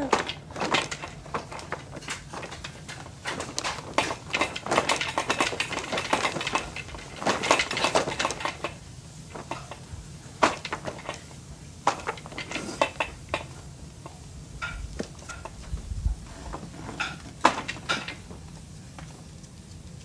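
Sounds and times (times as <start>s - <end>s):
plastic toys clattering: 0.0s - 15.8s, 16.4s - 18.5s.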